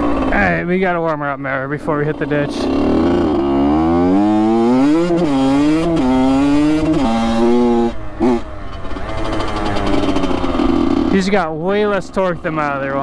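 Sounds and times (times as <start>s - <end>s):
two-stroke engine revving: 0.0s - 0.9s, 1.7s - 13.0s.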